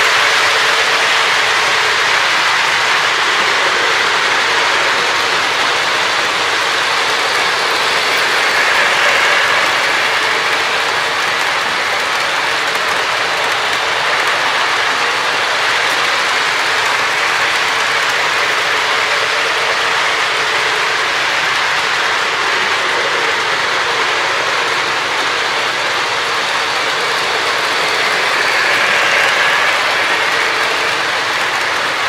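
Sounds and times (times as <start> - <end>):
model train wheels clattering: 0.0 - 32.0.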